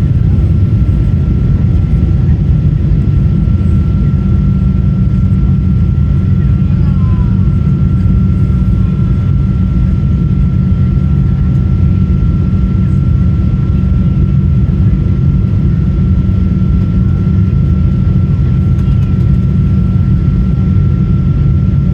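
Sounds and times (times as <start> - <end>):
jet engines rumbling: 0.0 - 21.9.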